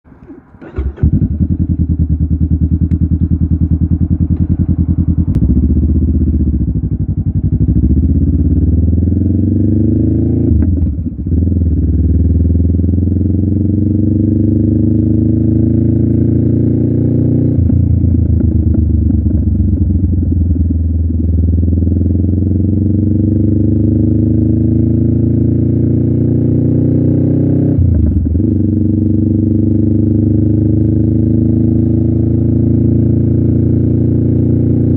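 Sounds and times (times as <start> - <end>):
motorcycle engine shifting up gears: 0.1 - 34.9.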